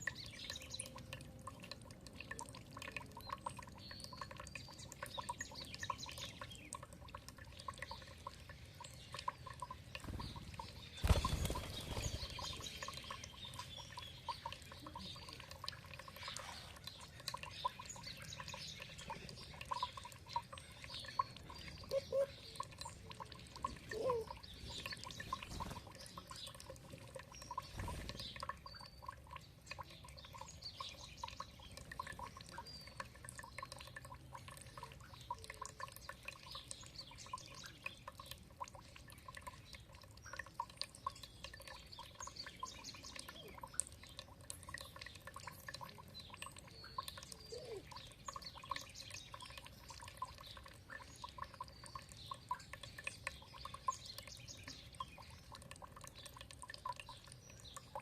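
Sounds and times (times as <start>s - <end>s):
small birds chirping: 0.0s - 58.0s
water trickling and dripping: 0.0s - 58.0s.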